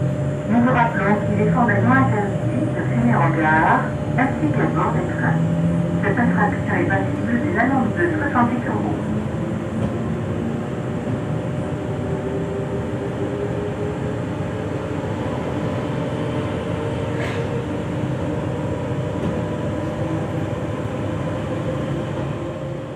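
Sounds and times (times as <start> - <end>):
train electrical equipment humming: 0.0 - 22.9.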